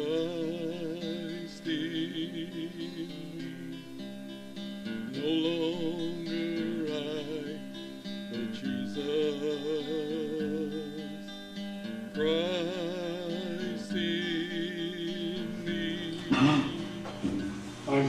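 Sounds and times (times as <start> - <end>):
man singing gospel song: 0.0 - 4.0, 5.0 - 11.5, 12.1 - 18.0
acoustic guitar: 0.0 - 18.0.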